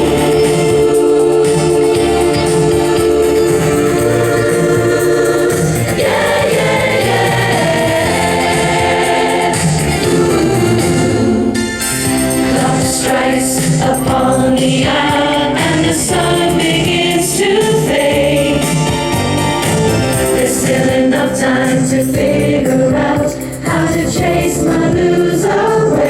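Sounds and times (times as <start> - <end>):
organ-like sound: 0.0 - 21.9
choir-like chords: 0.0 - 26.0.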